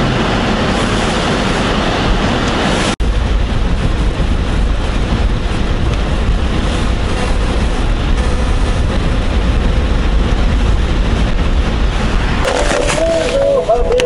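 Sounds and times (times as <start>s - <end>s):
car cabin road noise: 0.0s - 14.0s.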